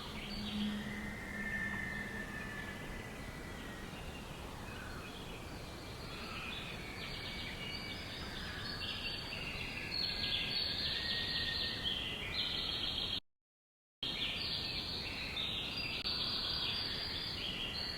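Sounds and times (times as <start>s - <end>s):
many birds chirping: 0.0s - 13.2s, 14.1s - 17.9s.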